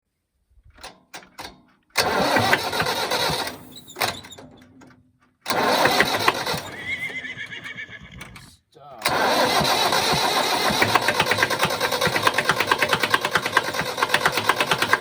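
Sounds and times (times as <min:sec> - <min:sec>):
tractor engine cranking on starter: 0:00.7 - 0:15.0.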